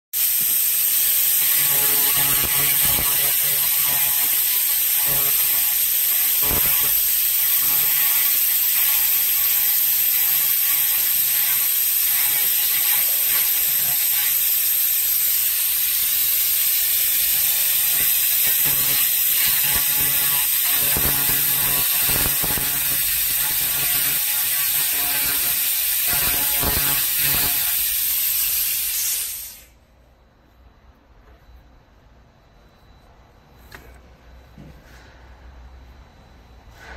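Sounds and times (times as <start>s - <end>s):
laser cleaning crackling hiss: 0.2s - 29.8s.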